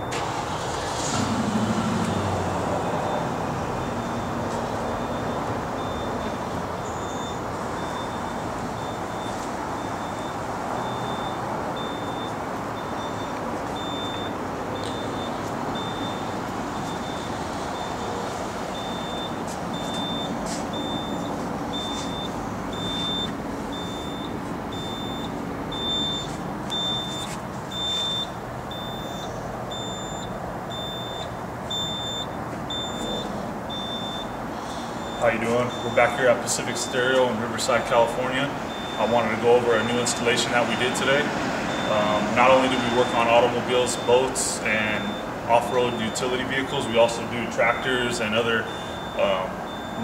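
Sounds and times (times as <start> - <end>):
backup alarm beeping: 0.0 - 1.0, 2.0 - 50.0
loader engine running: 0.0 - 50.0.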